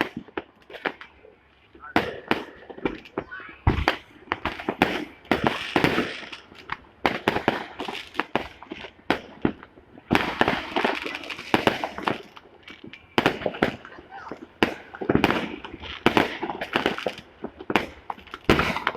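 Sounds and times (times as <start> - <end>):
fireworks bangs and crackling: 0.0 - 18.9.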